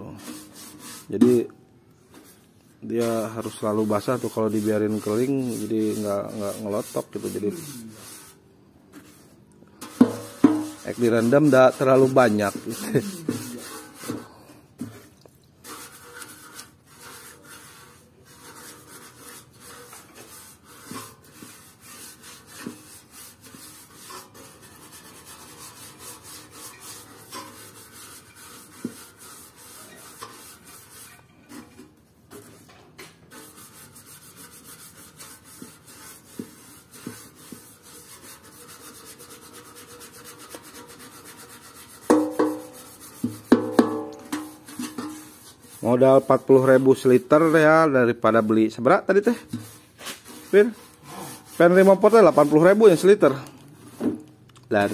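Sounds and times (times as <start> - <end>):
brush scrubbing metal: 0.0 - 54.9.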